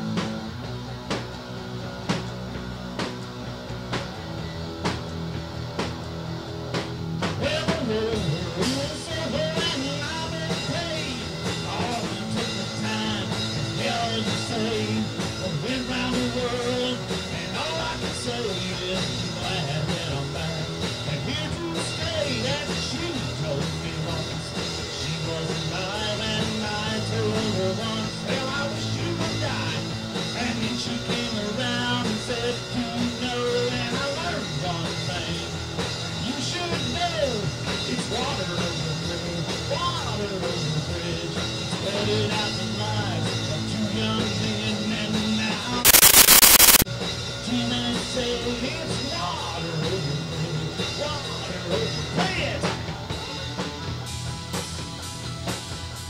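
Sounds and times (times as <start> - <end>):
rock song with singing: 0.0 - 46.8, 47.4 - 56.0.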